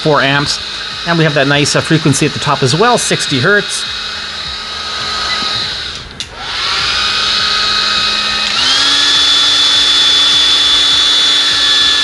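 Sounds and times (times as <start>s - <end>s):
blow dryer running: 0.0s - 12.0s.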